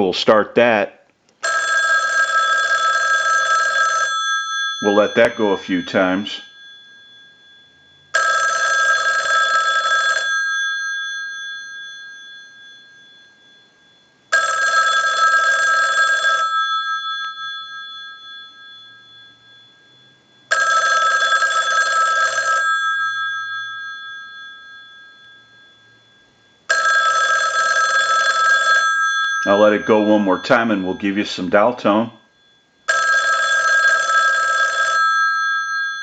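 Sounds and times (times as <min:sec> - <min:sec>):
telephone bells ringing: 0:01.4 - 0:36.0.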